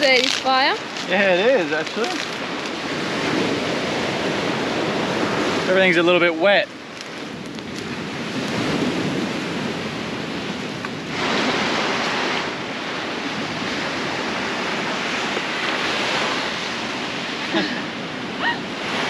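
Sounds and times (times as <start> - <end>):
ocean waves washing ashore: 0.0 - 19.0.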